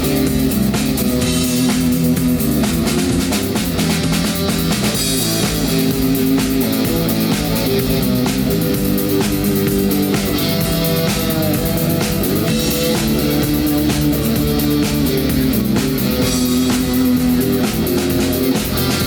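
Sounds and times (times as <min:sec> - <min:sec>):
rock band instrumental: 0:00.0 - 0:19.0.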